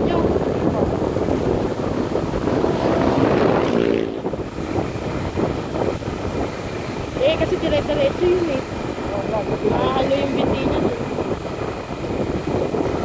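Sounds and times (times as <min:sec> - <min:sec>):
motorcycle running: 0:00.0 - 0:13.0
wind on microphone: 0:00.0 - 0:13.0.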